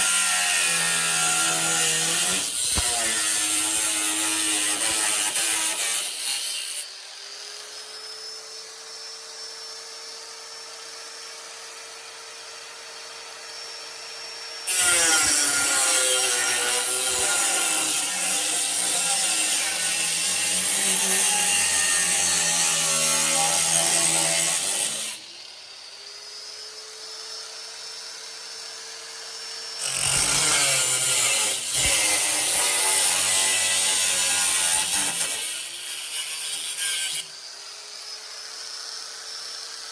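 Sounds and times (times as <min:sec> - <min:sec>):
power tool cutting sheet steel: 0:00.0 - 0:39.9.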